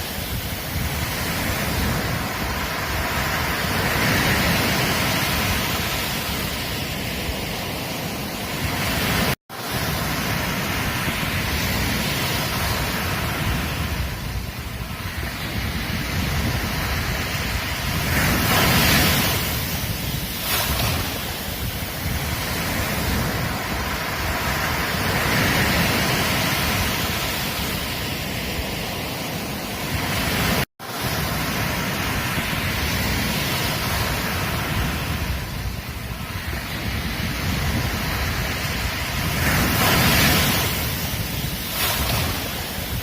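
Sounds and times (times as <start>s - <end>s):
ocean surf breaking on beach: 0.0s - 43.0s.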